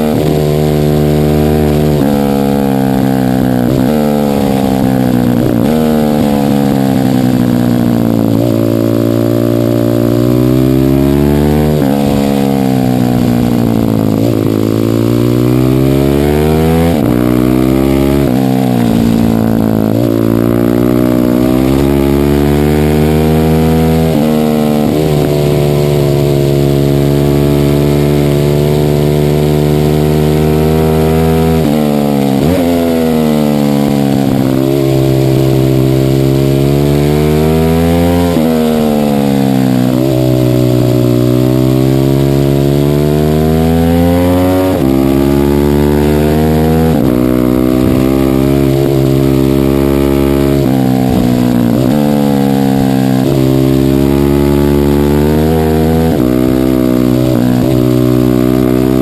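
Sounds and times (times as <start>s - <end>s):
minibike engine revving: 0.0s - 59.0s.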